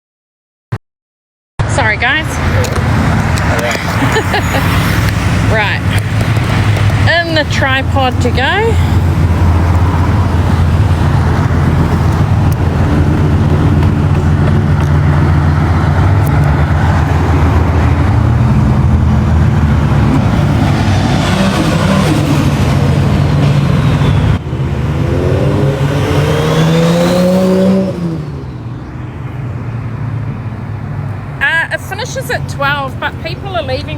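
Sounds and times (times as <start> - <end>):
car engine rumbling and revving: 1.6 - 33.9.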